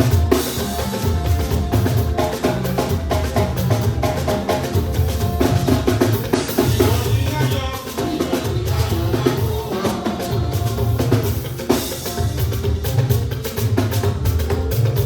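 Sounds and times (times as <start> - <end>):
band music with drum kit: 0.0 - 15.0.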